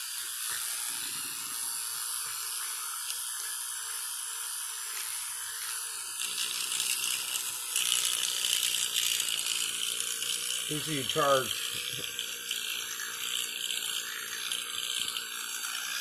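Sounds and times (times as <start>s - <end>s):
electric toothbrush buzzing: 0.0s - 16.0s.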